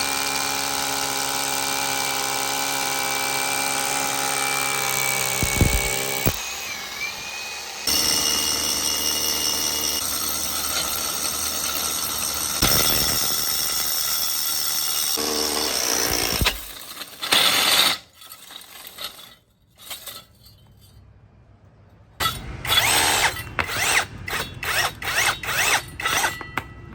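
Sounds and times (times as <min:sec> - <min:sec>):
rotary hammer drill motor: 0:00.0 - 0:18.0, 0:22.6 - 0:26.6.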